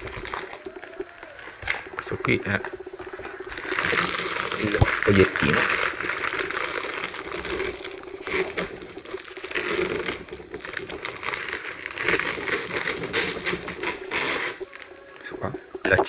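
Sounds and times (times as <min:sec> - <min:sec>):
crinkly packaging rustling: 0:00.0 - 0:02.1, 0:02.9 - 0:15.1.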